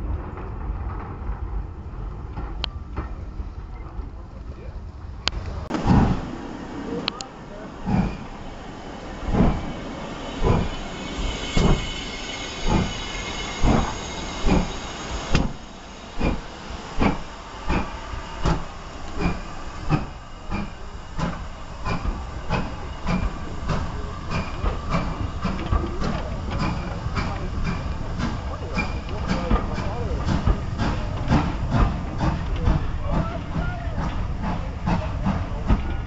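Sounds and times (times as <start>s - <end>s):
steam locomotive chuffing: 0.2s - 36.0s
steam hissing: 5.5s - 36.0s.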